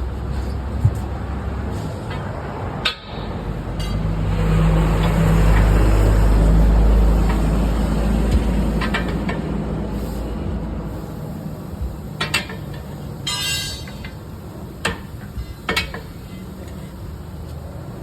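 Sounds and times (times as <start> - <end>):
large engine rumbling: 0.0 - 18.0.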